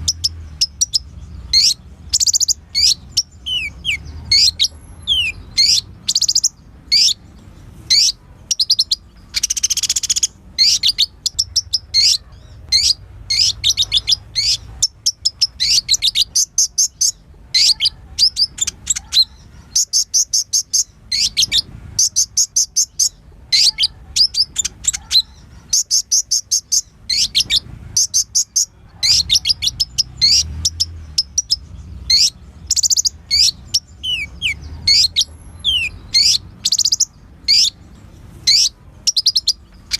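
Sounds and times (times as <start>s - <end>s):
sunbird singing chirps and trills: 0.0s - 39.9s.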